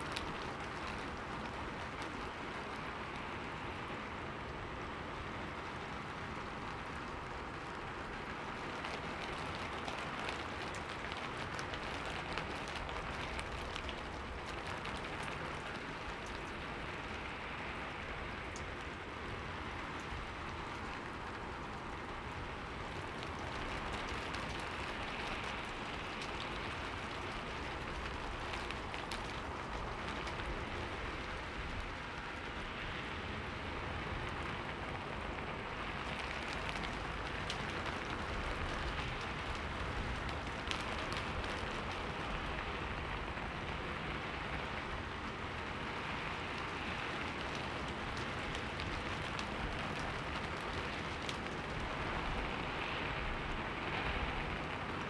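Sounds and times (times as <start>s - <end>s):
rain on a window pane: 0.0s - 55.0s
raindrops ticking: 0.0s - 55.0s.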